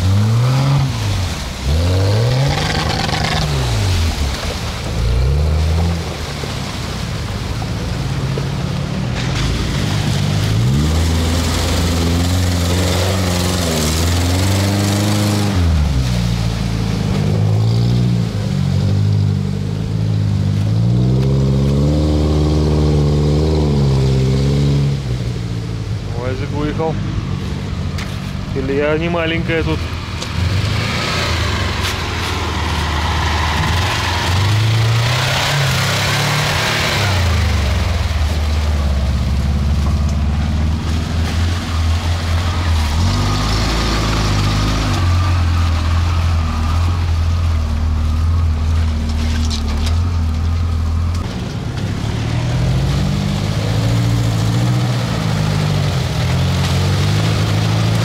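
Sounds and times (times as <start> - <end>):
off-road vehicle engine revving: 0.0 - 6.9, 9.2 - 58.0.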